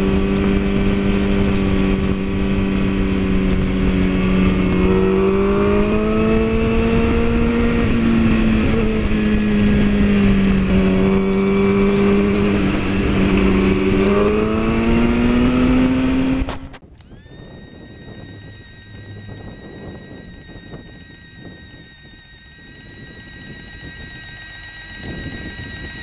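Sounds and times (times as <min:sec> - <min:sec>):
motorcycle engine: 0:00.0 - 0:26.0
wind rush on microphone: 0:00.0 - 0:26.0.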